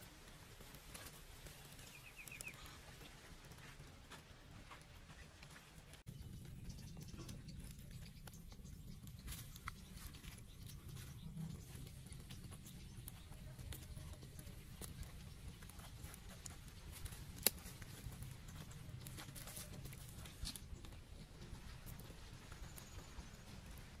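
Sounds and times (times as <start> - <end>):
charcoal fire crackling: 0.0 - 24.0.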